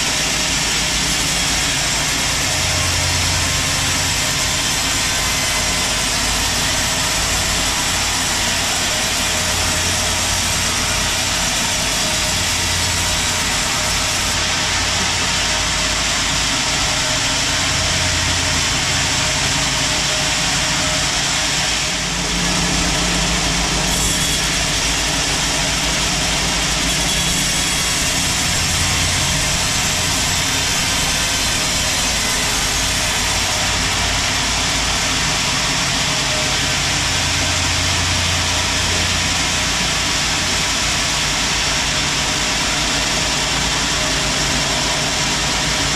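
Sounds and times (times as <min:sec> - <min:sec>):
sawmill machinery drone: 0:00.0 - 0:45.9.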